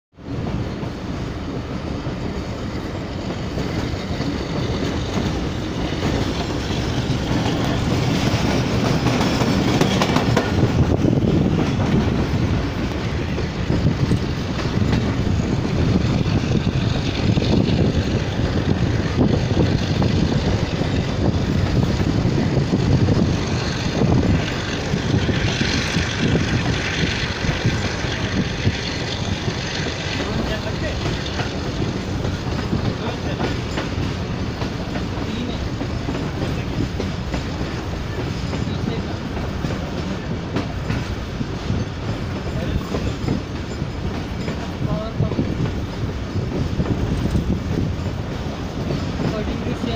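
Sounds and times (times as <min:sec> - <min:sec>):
train rumble: 0:00.1 - 0:49.9
wheels clattering over rails: 0:01.6 - 0:49.9.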